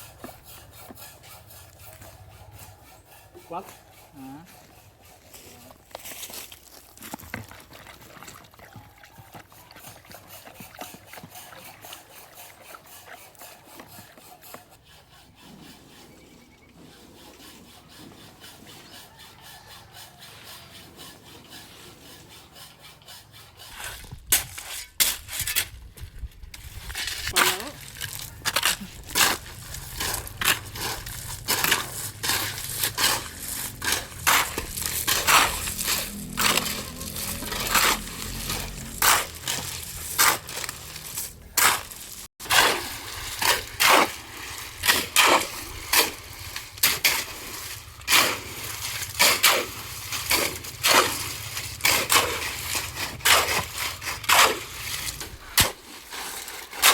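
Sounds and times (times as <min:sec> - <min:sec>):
hand tools scraping concrete: 0:00.0 - 0:08.0, 0:09.4 - 0:56.9.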